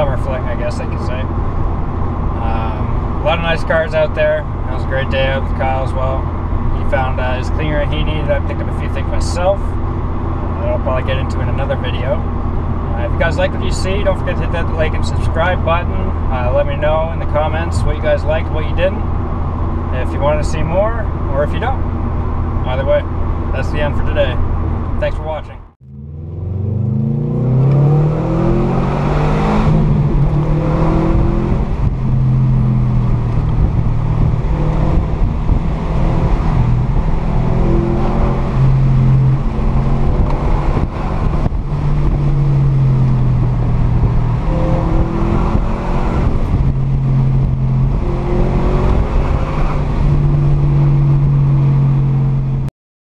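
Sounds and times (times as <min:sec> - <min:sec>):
car engine drone: 0:00.0 - 0:52.7
tyre and road noise: 0:00.0 - 0:52.7.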